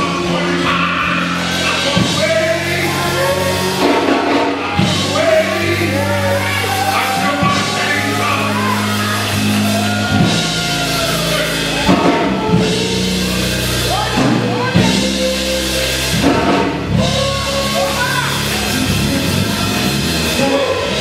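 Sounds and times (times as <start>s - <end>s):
man singing: 0.0s - 9.4s, 11.0s - 19.7s
drum kit playing: 0.0s - 21.0s
sustained keyboard chords: 0.0s - 21.0s.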